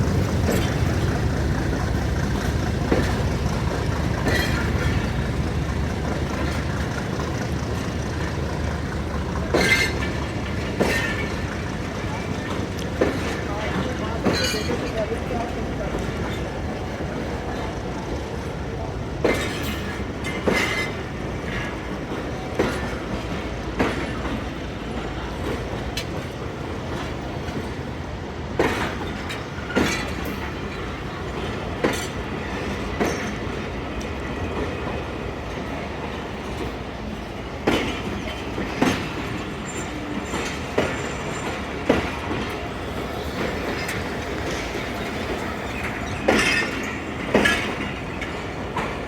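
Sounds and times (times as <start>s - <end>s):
train rolling rumble: 0.0s - 49.0s
train wheels clacking on joints: 0.0s - 49.0s.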